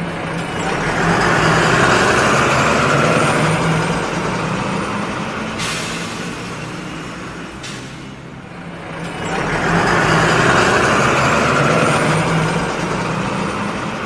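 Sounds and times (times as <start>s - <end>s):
bus engine running: 0.0s - 14.0s.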